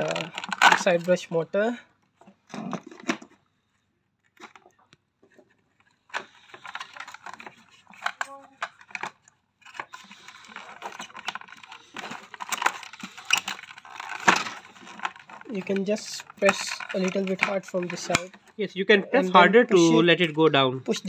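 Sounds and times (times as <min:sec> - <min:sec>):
plastic parts clicking and rattling: 0:00.0 - 0:03.4, 0:04.2 - 0:18.6.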